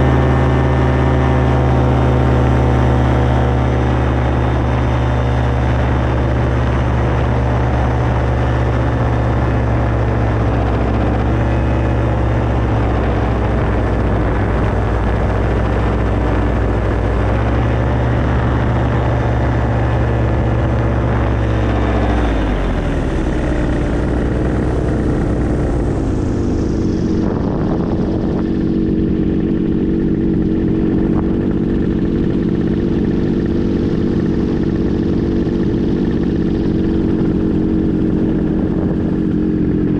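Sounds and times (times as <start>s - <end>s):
small aircraft engine and propeller: 0.0s - 39.9s.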